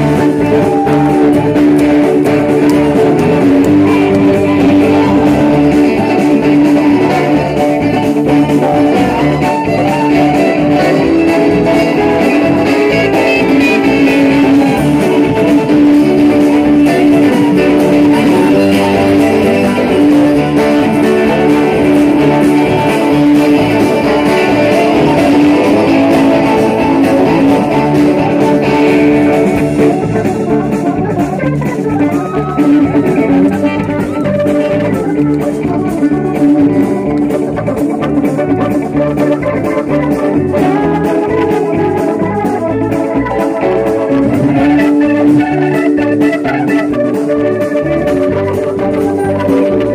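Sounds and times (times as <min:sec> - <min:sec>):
electric guitars: 0:00.0 - 0:49.9
live rock band playing: 0:00.0 - 0:49.9.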